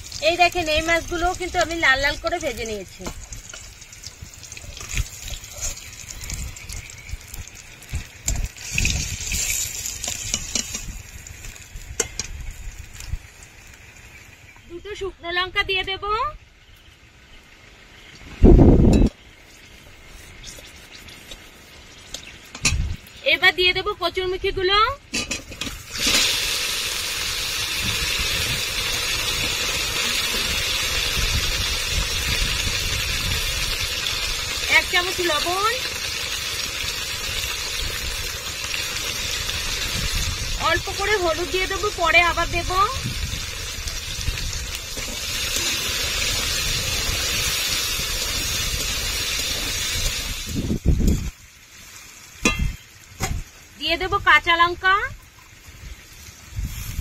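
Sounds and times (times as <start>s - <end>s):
hot oil sizzling: 0.0s - 15.8s, 16.6s - 57.0s.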